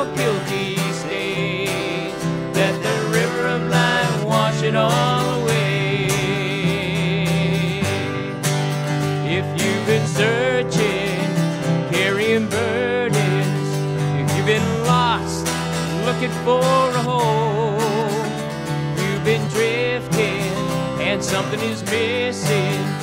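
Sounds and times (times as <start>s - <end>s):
acoustic guitars strummed: 0.0s - 23.0s
person singing: 0.0s - 23.0s.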